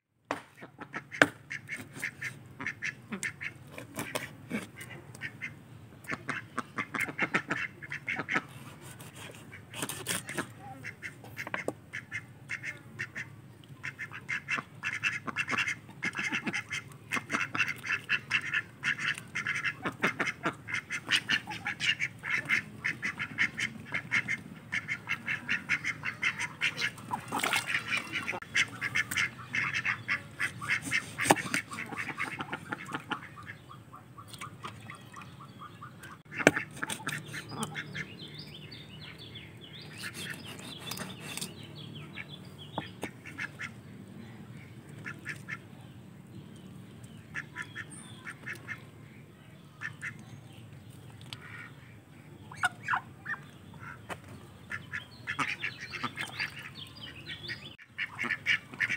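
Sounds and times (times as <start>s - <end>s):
ducks quacking: 0.5s - 45.9s, 47.1s - 49.2s, 49.8s - 50.3s, 51.3s - 58.9s.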